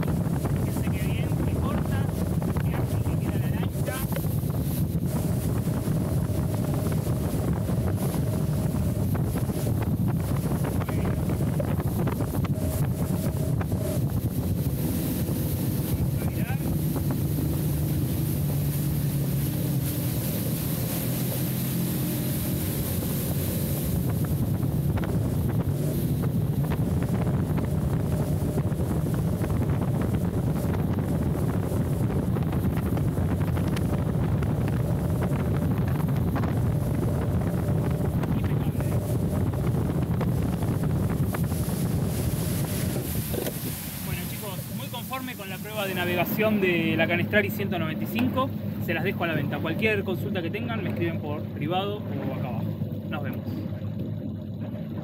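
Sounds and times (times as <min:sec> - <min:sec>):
boat hull wash: 0:00.0 - 0:55.0
outboard motor running: 0:00.0 - 0:55.0
wind buffeting microphone: 0:00.0 - 0:55.0.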